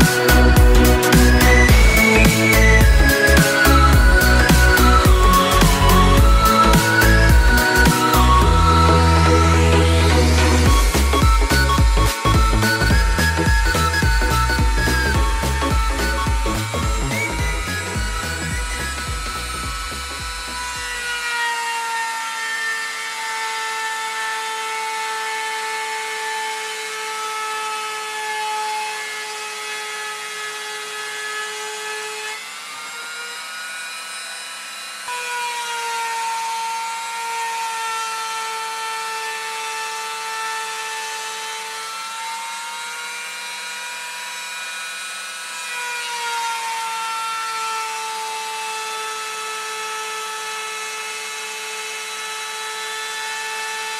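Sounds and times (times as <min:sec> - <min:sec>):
router spindle whining: 0:00.0 - 0:53.9.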